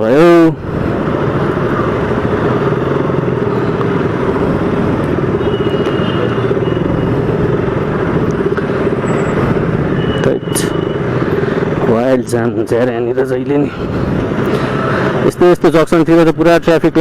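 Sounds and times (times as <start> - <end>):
motorcycle engine and road noise: 0.0 - 17.0.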